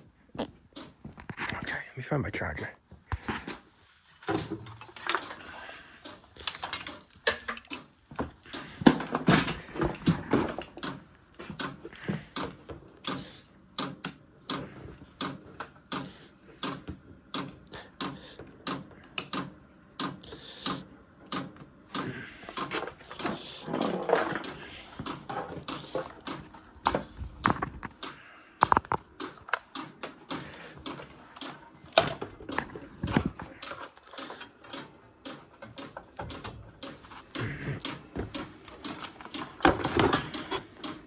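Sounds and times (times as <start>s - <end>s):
objects knocking and clicking: 4.2s - 41.0s.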